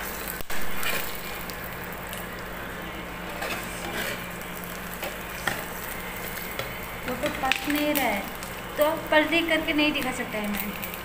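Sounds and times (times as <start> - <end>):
low steady hum: 0.0 - 11.0
omelette sizzling in a pan: 0.0 - 11.0.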